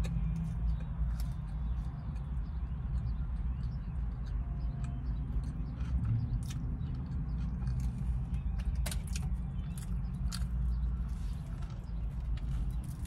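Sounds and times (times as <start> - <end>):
person chewing: 0.0 - 13.0
steady low hum: 0.0 - 13.0.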